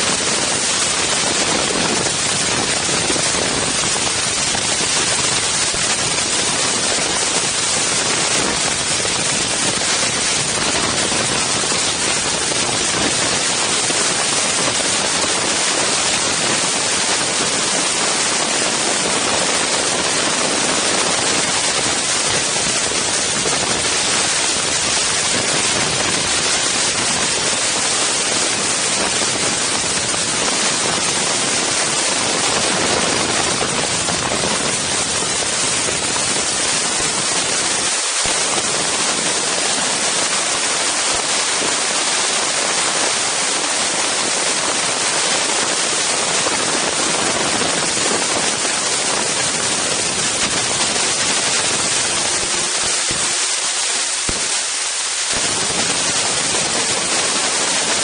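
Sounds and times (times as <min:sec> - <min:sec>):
wind blowing across microphone: 0:00.0 - 0:58.0.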